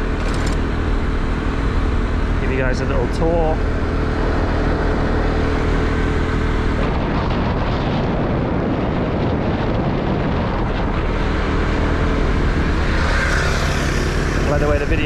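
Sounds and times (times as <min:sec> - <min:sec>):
motorbike engine hum: 0:00.0 - 0:15.0
wind rushing over microphone: 0:00.0 - 0:15.0.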